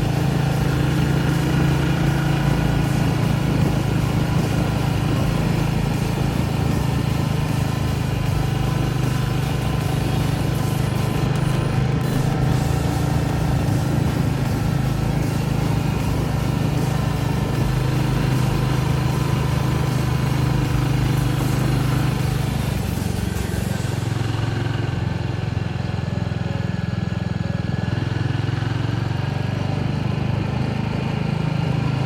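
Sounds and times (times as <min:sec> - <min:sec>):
motorbike engine running: 0:00.0 - 0:32.0.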